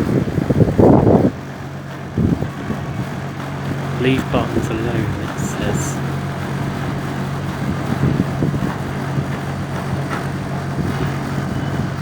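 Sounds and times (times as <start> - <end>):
tumble dryer running: 0.6 - 12.0.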